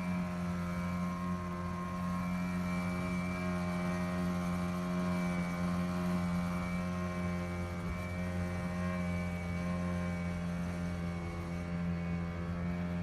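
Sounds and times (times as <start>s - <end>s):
engine droning steadily: 0.0s - 13.0s.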